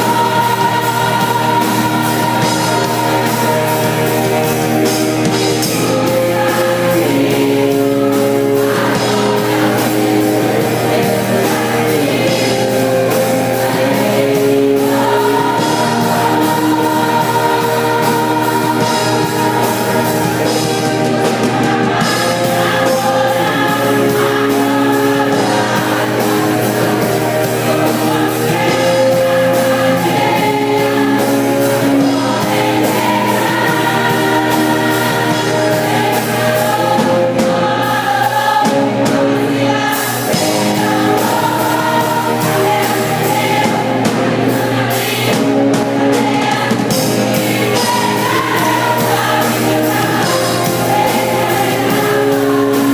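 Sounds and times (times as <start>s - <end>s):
choir singing a hymn: 0.0s - 52.9s
instrumental accompaniment: 0.0s - 52.9s.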